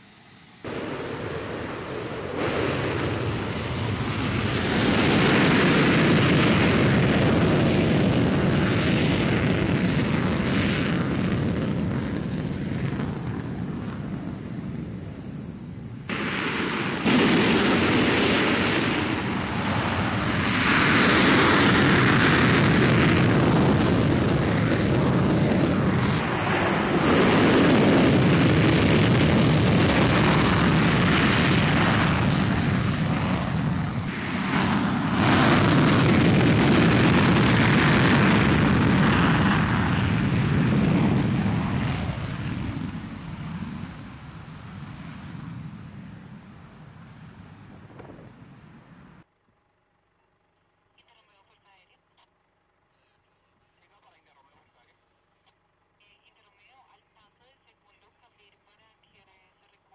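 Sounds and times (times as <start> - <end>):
jet engine roar: 0.0 - 49.3.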